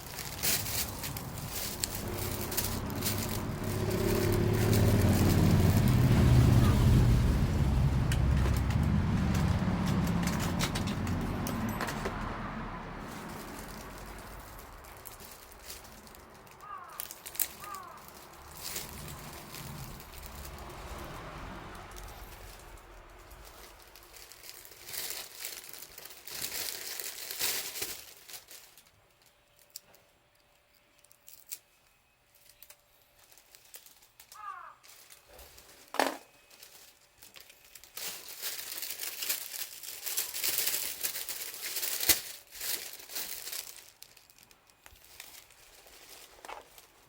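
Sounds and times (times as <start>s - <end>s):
rustling and crinkling: 0.0s - 47.0s.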